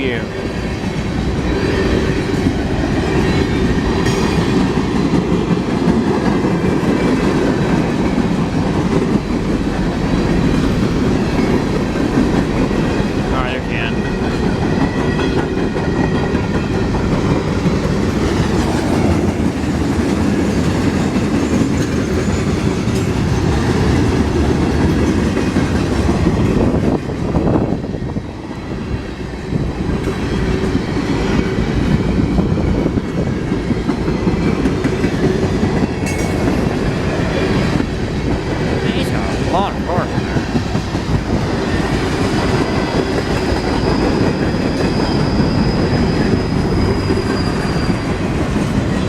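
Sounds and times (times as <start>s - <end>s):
freight train rumbling: 0.0s - 49.0s.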